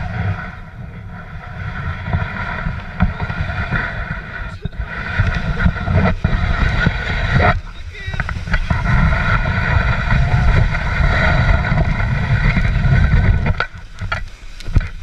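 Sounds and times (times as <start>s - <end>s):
sled rumbling across snow: 0.0s - 15.0s
wind buffeting microphone: 0.0s - 15.0s.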